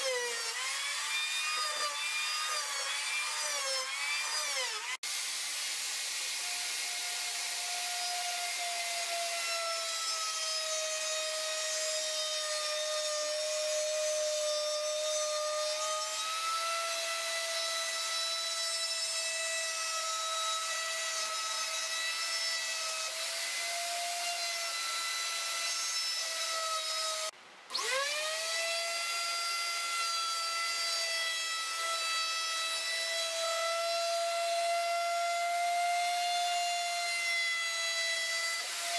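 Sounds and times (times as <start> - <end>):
electric router cutting wood: 0.0 - 38.9.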